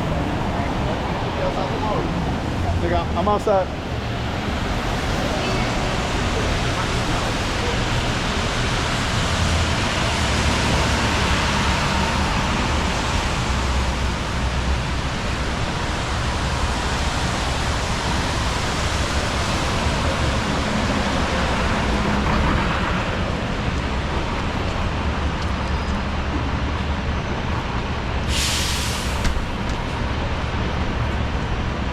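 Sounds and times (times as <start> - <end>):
cars passing on wet pavement: 0.0 - 31.9
vehicles rumbling: 0.0 - 31.9.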